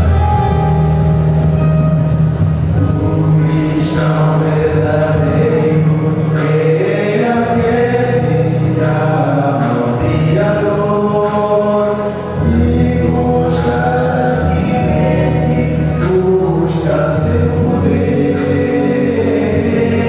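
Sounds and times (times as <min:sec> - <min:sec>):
male vocal quartet singing: 0:02.7 - 0:20.0.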